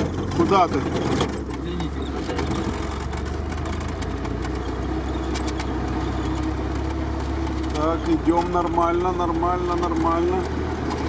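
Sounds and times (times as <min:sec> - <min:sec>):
vehicle engine running at low revs: 0:00.0 - 0:11.0.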